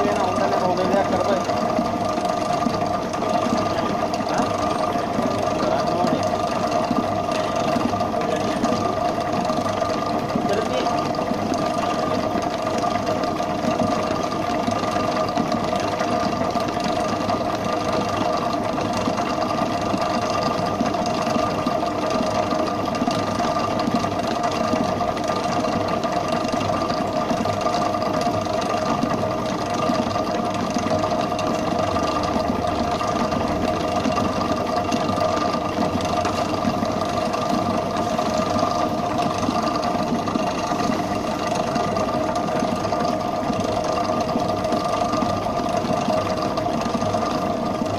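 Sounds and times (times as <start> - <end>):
beater whipping icing in steel bowl: 0.0 - 47.9
mixer motor humming and whining: 0.0 - 47.9.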